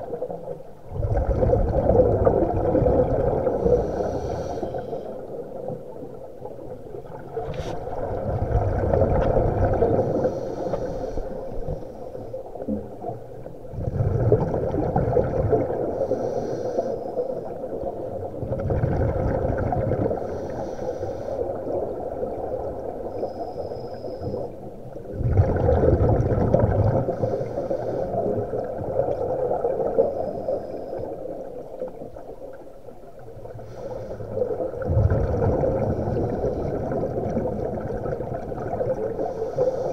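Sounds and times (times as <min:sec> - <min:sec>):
scuba regulator bubbles underwater: 0:00.0 - 0:39.9.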